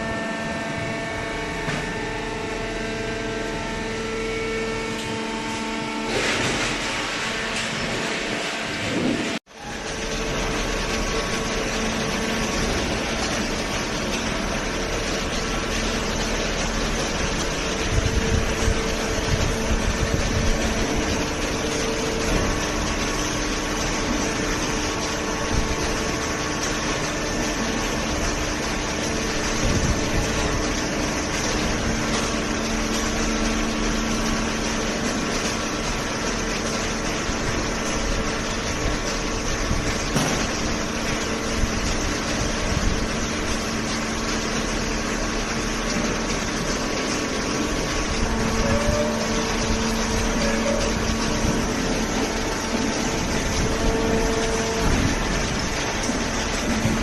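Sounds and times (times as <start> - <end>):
hydraulic baler humming: 0.0 - 57.0.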